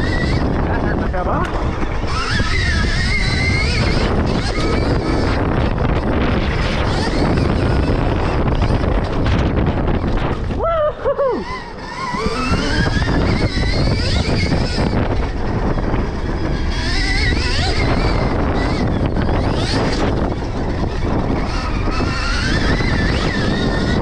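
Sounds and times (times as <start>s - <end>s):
electric motor whining: 0.0s - 24.0s
wind and tyres on dirt rumbling: 0.0s - 24.0s.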